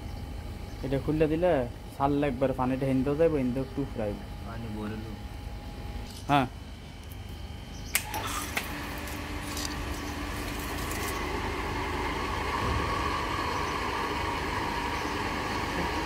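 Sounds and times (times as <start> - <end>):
electric water pump humming: 0.0 - 16.0.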